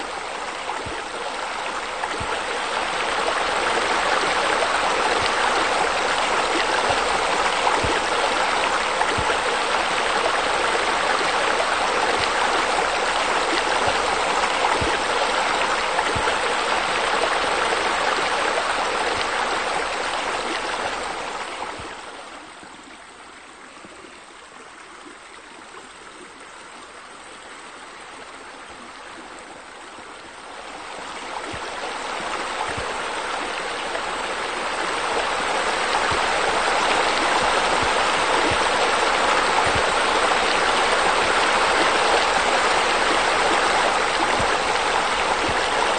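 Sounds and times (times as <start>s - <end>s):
fountain water splashing into pool: 0.0s - 22.0s, 30.7s - 45.9s.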